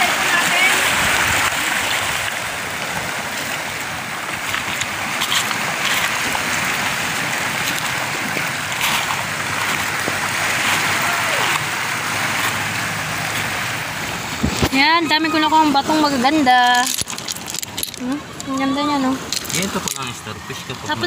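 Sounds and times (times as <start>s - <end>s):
wading splashes: 0.0s - 21.0s
waves breaking on rocks: 0.0s - 21.0s.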